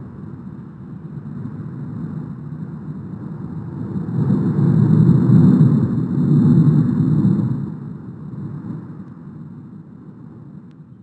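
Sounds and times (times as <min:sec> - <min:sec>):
volcano vent roaring: 0:00.0 - 0:09.4.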